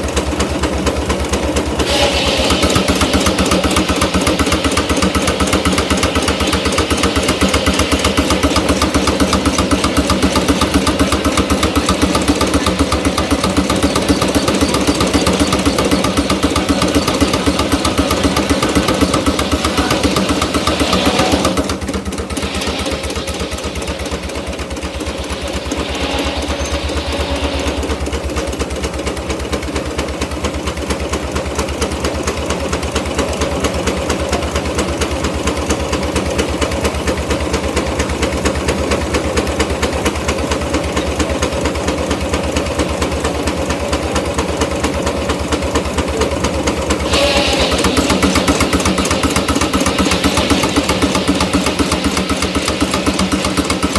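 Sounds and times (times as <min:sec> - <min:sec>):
steam engine running a sawmill: 0:00.0 - 0:53.9.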